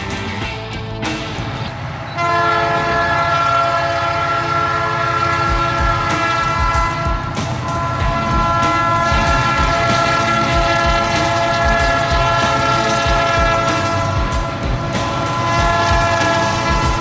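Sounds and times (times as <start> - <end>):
train rumble: 0.0 - 17.0
wheels clicking on rails: 0.0 - 17.0
locomotive air horn: 1.8 - 17.0.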